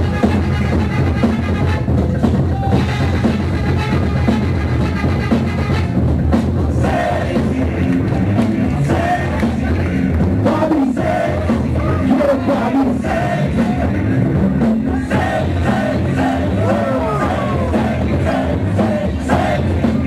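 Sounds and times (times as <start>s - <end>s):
singing over heavy bass beat: 0.0s - 20.0s.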